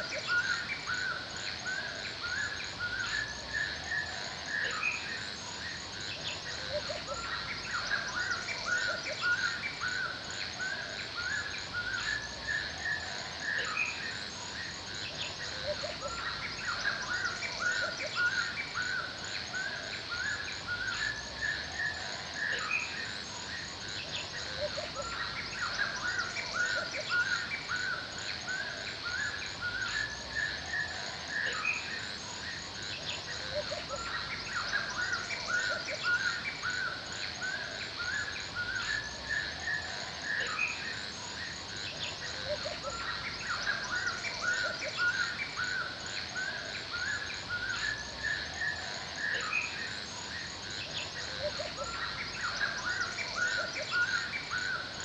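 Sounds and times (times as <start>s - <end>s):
birds chirping and calling: 0.0s - 55.0s
high insect drone: 0.0s - 55.0s.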